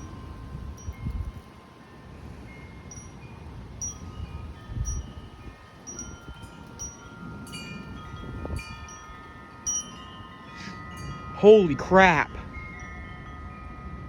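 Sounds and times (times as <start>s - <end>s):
wind chimes ringing: 0.0s - 14.0s
wind rumble: 0.0s - 14.0s.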